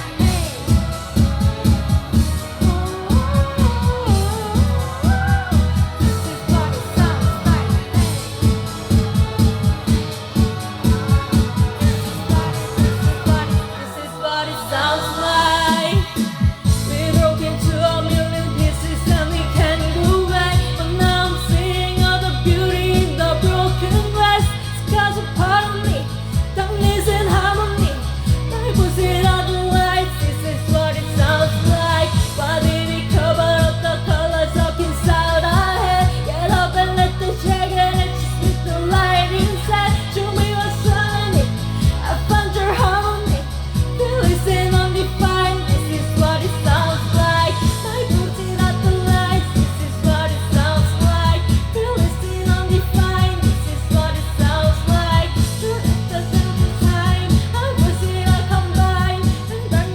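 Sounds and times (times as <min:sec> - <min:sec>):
bass line and beat: 0:00.0 - 0:59.9
person singing: 0:00.0 - 0:59.9.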